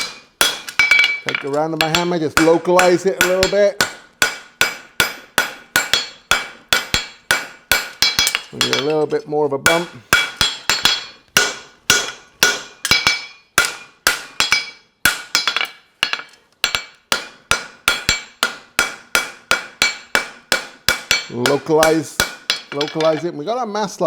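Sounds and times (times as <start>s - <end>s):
hammer striking steel on anvil: 0.0s - 9.1s, 9.7s - 23.3s.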